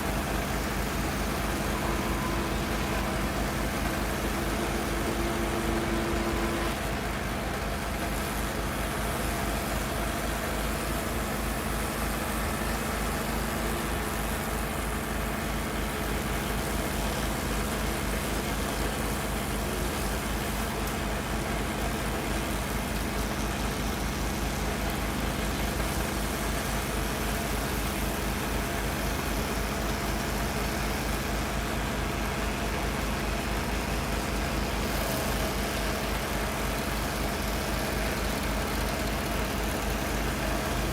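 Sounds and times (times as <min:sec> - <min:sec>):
single-cylinder engine running: 0:00.0 - 0:40.9.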